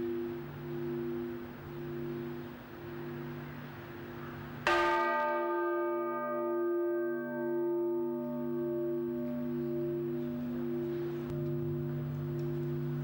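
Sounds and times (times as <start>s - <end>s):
church bell struck: 0.0s - 13.0s
low hum of bell tones: 0.0s - 13.0s.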